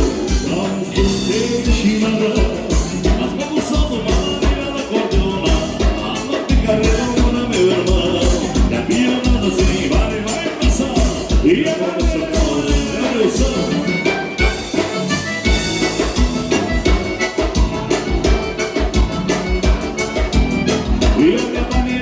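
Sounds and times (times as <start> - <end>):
accordion-led dance band: 0.0 - 22.0
steady bass beat: 0.0 - 22.0.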